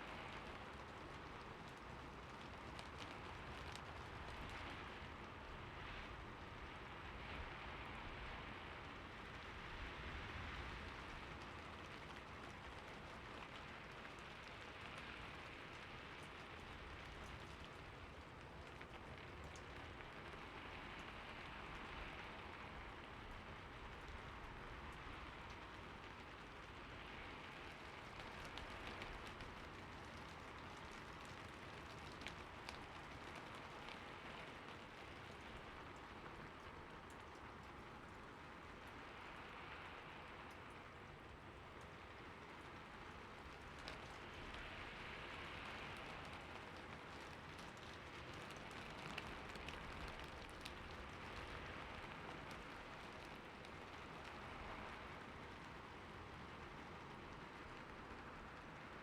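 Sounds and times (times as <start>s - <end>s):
faint raindrop ticks: 0.0s - 59.0s
steady rain hiss: 0.0s - 59.0s.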